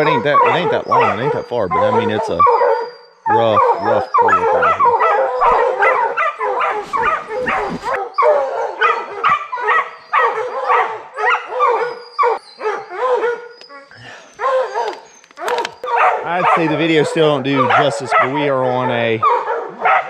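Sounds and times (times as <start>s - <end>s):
hounds baying and barking: 0.0s - 20.0s.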